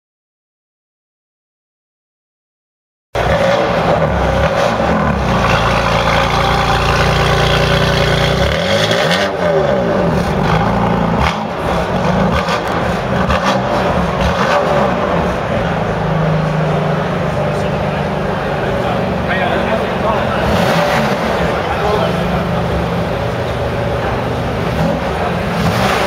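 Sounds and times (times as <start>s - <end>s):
car engine revving loudly: 3.2s - 26.0s.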